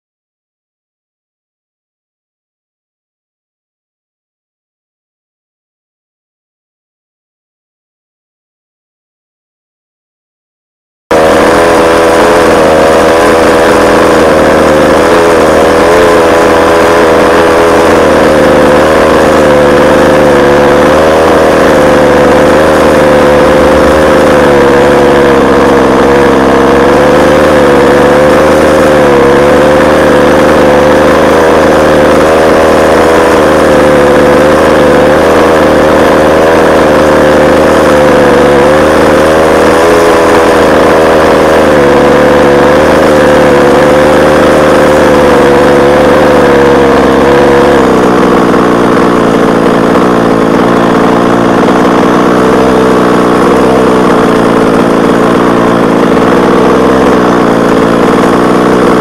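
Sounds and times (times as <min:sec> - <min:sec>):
small two-stroke engine idling: 0:11.1 - 0:59.0.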